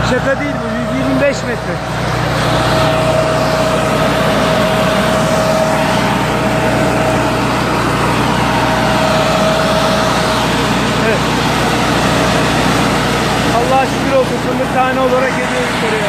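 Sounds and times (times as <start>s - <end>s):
engine hum: 0.0s - 16.0s
suction fan whine: 0.0s - 16.0s.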